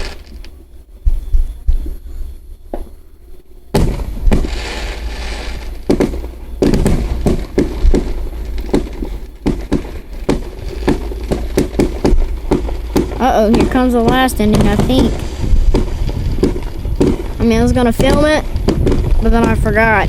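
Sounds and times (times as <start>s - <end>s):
firework crackling hiss: 0.0s - 0.5s, 3.7s - 20.0s
firework bangs: 0.0s - 1.2s, 3.7s - 20.0s.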